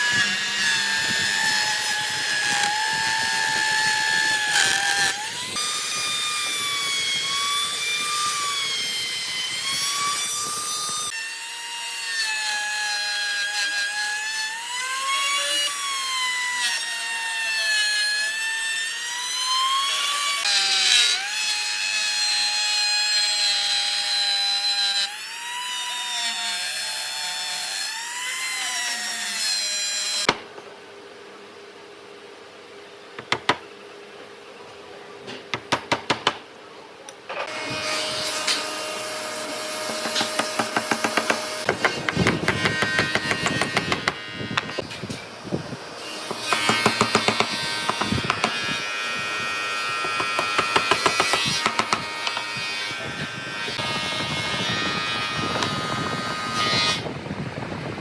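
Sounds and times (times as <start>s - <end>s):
power tool cutting wood: 0.0s - 30.3s, 37.4s - 57.1s.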